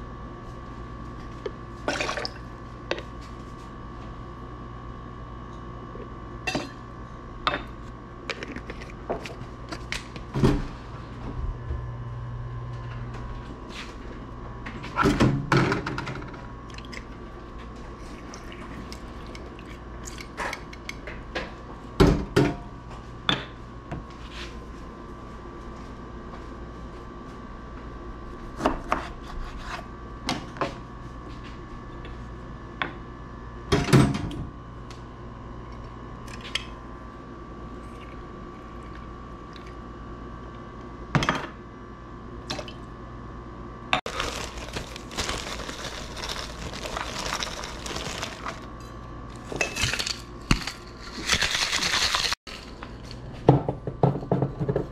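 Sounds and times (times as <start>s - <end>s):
steady hum: 0.0s - 33.7s, 34.4s - 53.9s.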